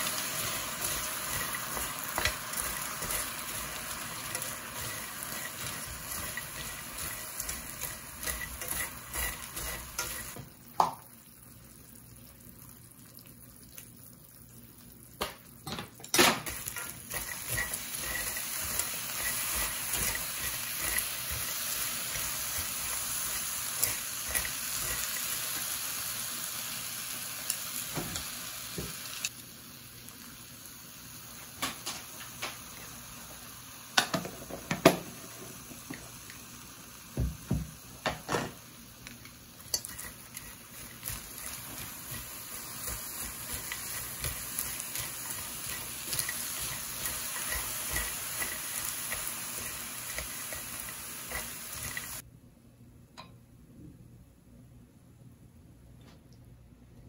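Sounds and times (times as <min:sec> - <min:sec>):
food sizzling in oil: 0:00.0 - 0:11.4, 0:13.7 - 0:52.2.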